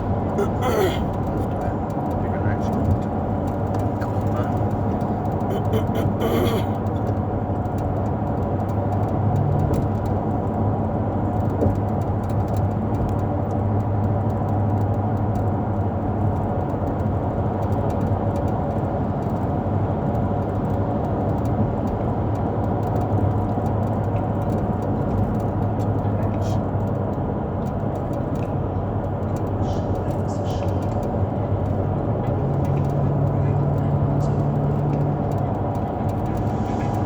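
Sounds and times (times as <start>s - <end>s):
vehicle engine and road drone: 0.0s - 37.0s.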